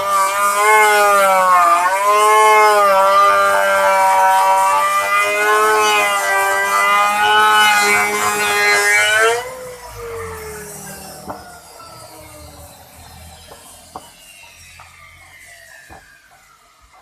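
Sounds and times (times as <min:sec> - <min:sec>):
wood router whining: 0:00.0 - 0:17.0.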